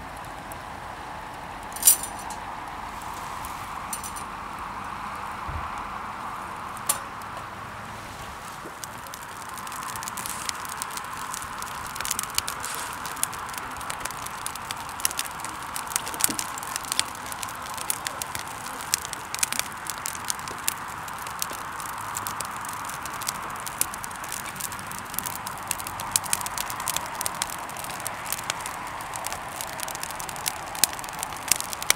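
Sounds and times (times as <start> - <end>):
steady hiss: 0.0 - 31.9
wood fire crackling: 0.0 - 31.9.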